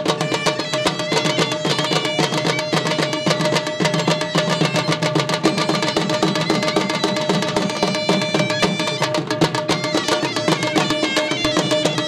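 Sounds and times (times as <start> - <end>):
drums beaten rapidly with sticks: 0.0 - 12.0.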